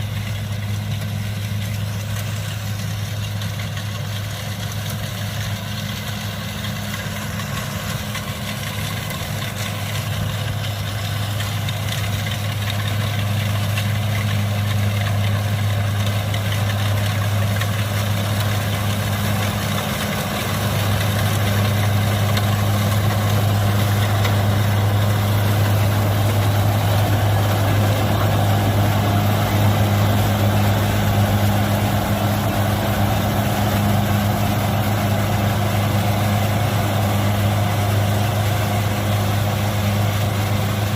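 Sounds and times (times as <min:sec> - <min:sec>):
combine harvester diesel engine running: 0:00.0 - 0:40.9
continuous mechanical noise: 0:00.0 - 0:40.9.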